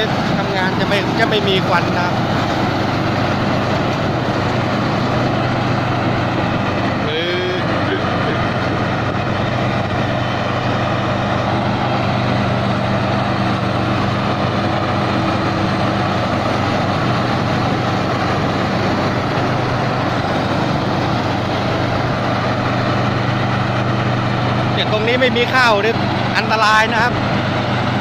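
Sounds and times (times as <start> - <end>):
harvester diesel engine straining: 0.0 - 28.0.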